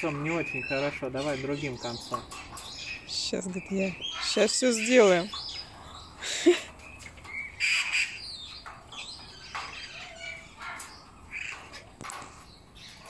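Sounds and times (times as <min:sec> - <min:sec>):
birds squawking and chirping: 0:00.0 - 0:13.0.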